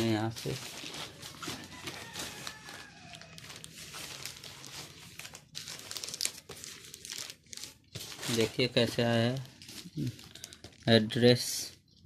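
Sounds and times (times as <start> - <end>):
plastic mailer bag crinkling: 0.0 - 11.5.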